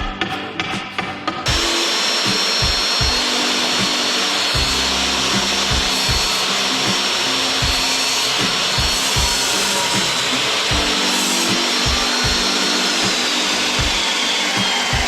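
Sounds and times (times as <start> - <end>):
music with regular beat: 0.0 - 15.0
power tool motor running: 1.5 - 15.0.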